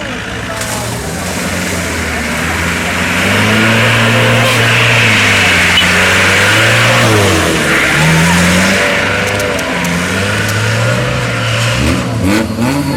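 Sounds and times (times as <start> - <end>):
jeep engines revving: 0.0 - 12.9.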